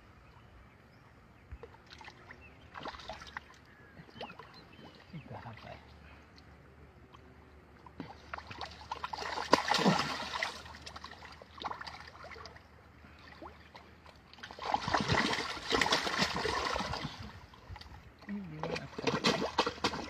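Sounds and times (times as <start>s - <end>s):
water splashing and sloshing: 1.5s - 20.0s.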